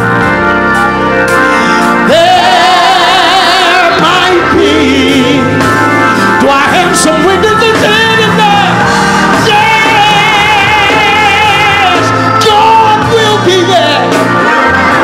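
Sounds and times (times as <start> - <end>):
organ accompaniment: 0.0 - 15.0
man singing gospel: 0.8 - 15.0.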